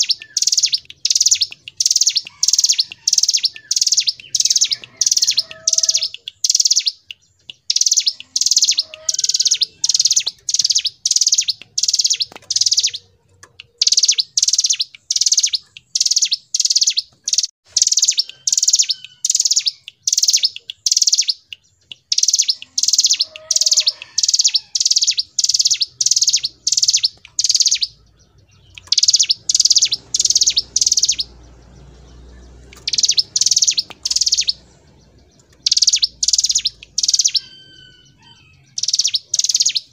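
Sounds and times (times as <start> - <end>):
bird singing rattling trill: 0.0 - 39.9.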